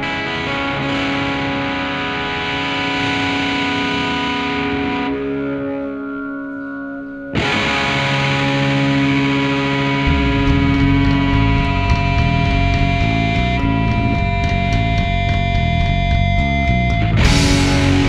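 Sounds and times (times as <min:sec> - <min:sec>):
distorted electric guitar chords: 0:00.0 - 0:18.0
heavy low bass: 0:03.2 - 0:18.0.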